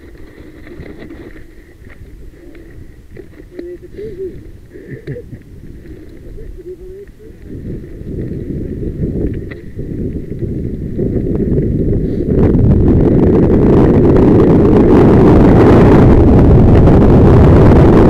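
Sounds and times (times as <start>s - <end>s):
bike rattling over stony dirt: 0.0s - 15.7s
wind buffeting microphone: 0.0s - 18.0s.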